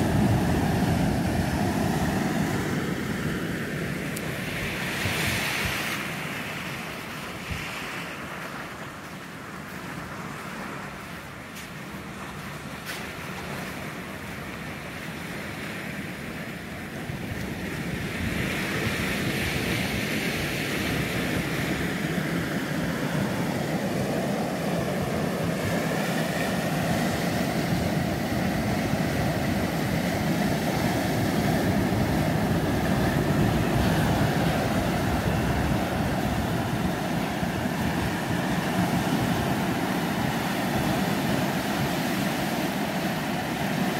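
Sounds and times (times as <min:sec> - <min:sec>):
ocean surf breaking on sand: 0:00.0 - 0:43.9.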